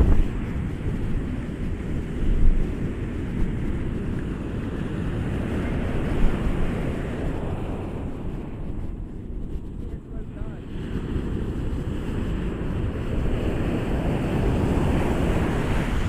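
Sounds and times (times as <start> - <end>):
ocean surf washing ashore: 0.0 - 16.0
wind buffeting microphone: 0.0 - 16.0.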